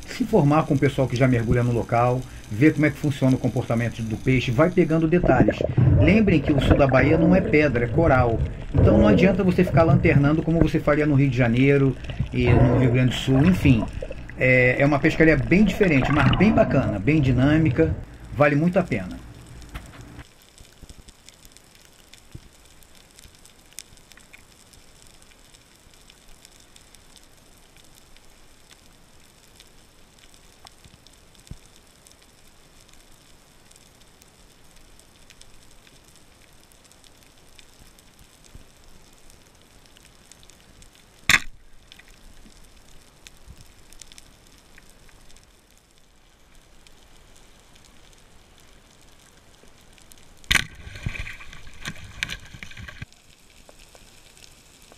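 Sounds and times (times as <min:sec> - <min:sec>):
underwater crackling and hiss: 0:00.0 - 0:54.9.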